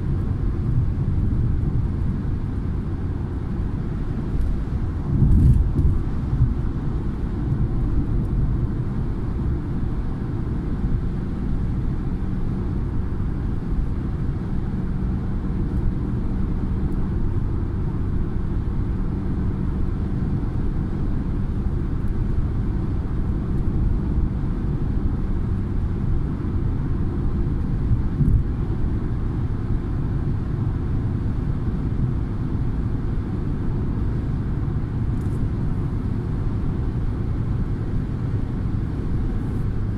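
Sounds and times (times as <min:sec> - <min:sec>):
faint engine hum: 0:00.0 - 0:39.9
tyre and engine rumble: 0:00.0 - 0:39.9.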